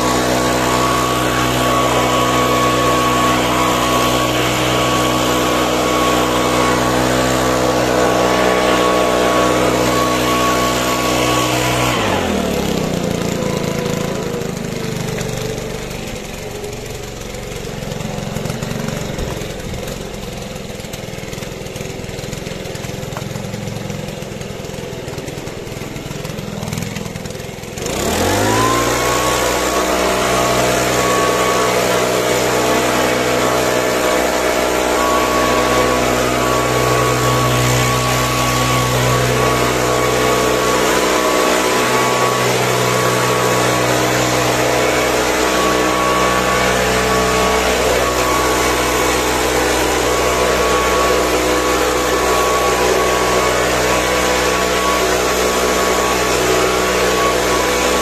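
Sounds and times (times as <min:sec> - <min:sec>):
small engine running and revving: 0:00.0 - 0:58.0.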